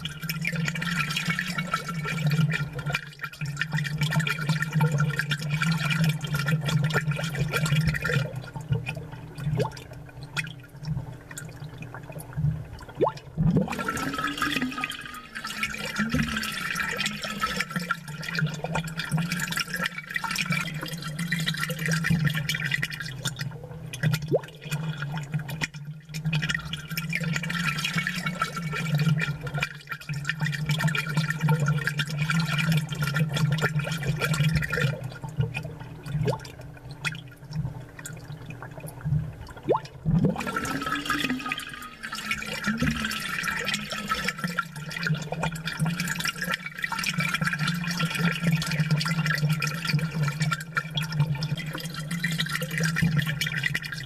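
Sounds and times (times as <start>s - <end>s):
aquarium water bubbling: 0.0s - 54.0s.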